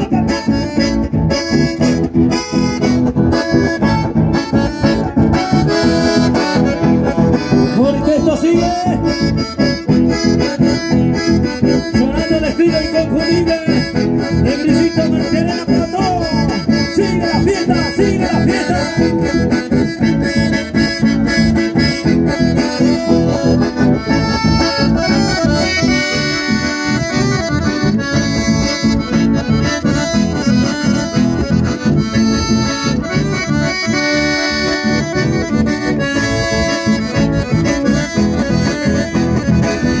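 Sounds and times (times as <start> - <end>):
accordions playing melody: 0.0 - 40.0
acoustic guitars strummed: 0.0 - 40.0.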